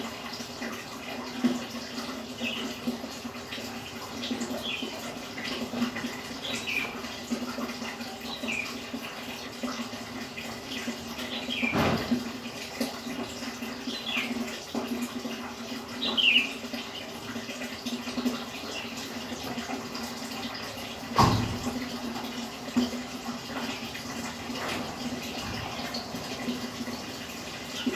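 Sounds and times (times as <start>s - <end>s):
aquarium water bubbling: 0.0s - 27.9s.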